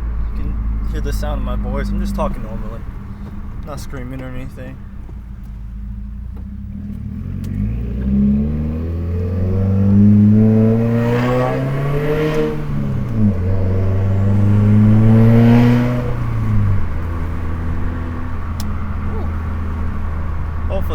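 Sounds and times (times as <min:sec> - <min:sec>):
car engine accelerating and shifting: 0:00.0 - 0:20.9.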